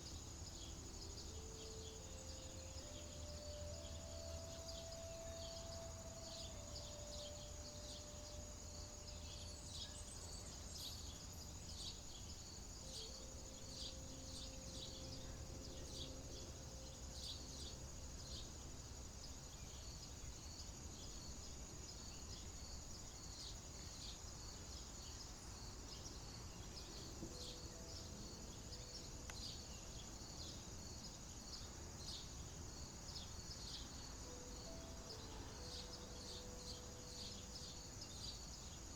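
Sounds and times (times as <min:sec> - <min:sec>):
insect trill: 0:00.0 - 0:38.9.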